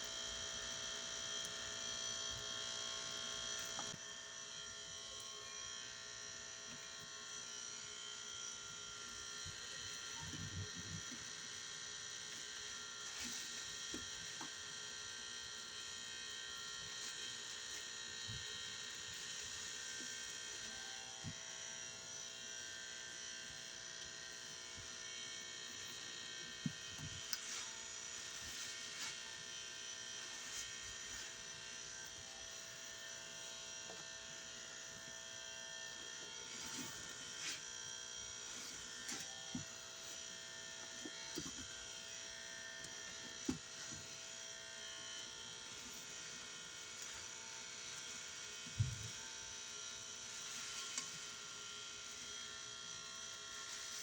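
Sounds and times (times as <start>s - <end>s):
steady electrical buzz: 0.0s - 54.0s.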